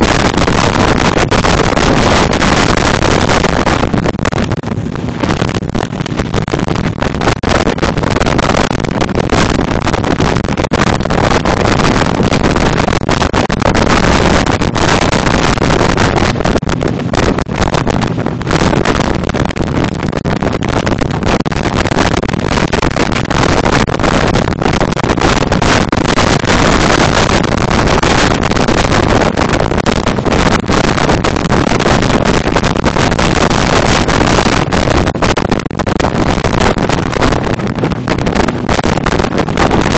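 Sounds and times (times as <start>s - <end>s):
boat engine: 0.0s - 39.9s
wind buffeting microphone: 0.0s - 39.9s.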